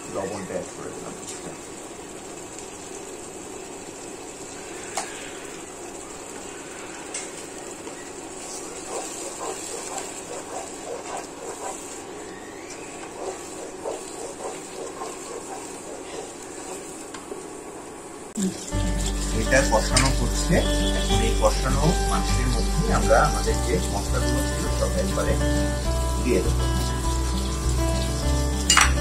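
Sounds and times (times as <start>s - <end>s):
pan hissing: 0.0s - 29.0s.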